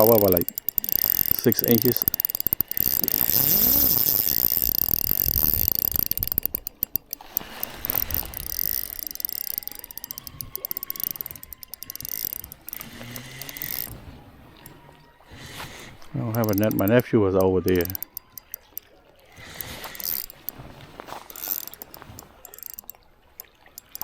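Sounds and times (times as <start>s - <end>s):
fishing reel ratcheting clicks: 0.0s - 14.9s, 15.5s - 24.0s.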